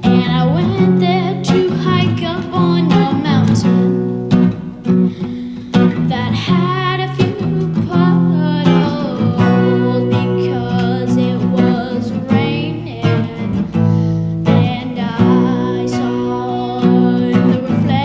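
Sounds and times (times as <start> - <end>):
person singing: 0.0 - 4.1, 5.0 - 18.0
acoustic guitar strumming: 0.0 - 18.0.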